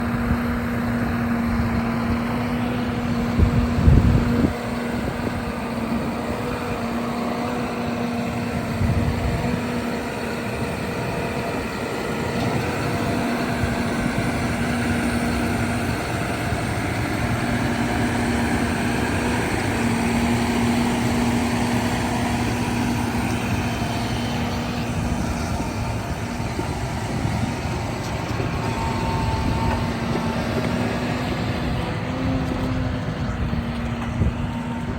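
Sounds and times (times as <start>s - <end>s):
tractor diesel engine humming: 0.0s - 34.9s.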